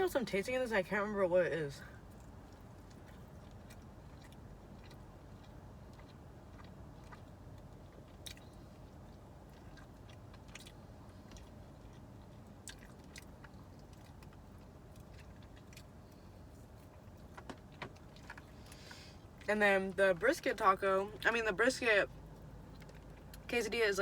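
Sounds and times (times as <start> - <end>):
low steady hum: 0.0 - 24.0
chewing meat: 1.8 - 24.0.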